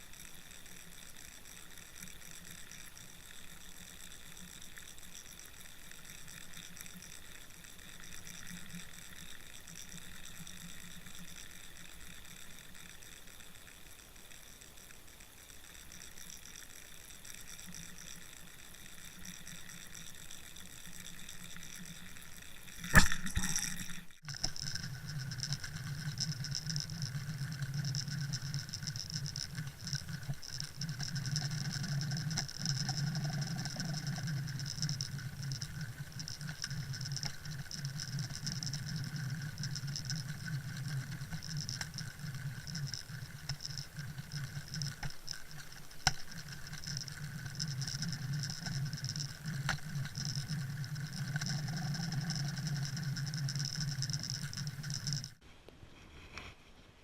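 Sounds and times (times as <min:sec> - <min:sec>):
underwater crackling patter: 0:00.0 - 0:55.4
sharp underwater clicks: 0:00.1 - 0:55.4.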